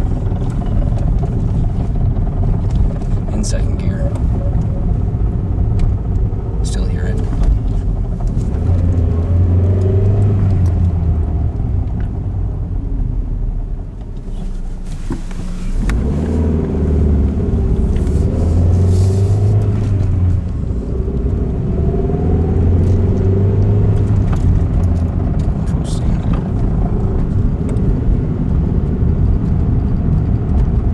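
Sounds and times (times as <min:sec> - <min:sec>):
car engine and drivetrain hum: 0:00.0 - 0:30.9.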